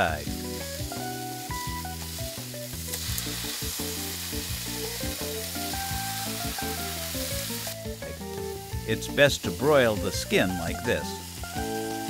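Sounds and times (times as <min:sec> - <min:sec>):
fish sizzling in hot oil: 0:00.0 - 0:12.0
soft background music: 0:00.0 - 0:12.0.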